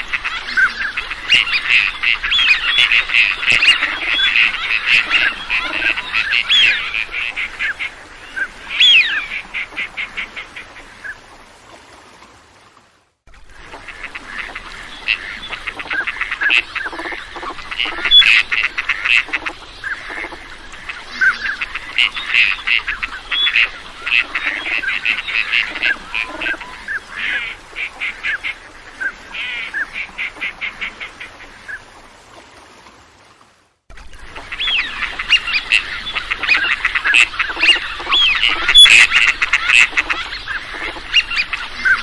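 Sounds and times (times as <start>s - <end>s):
ducks quacking: 0.0s - 11.2s, 13.6s - 31.8s, 34.1s - 42.0s.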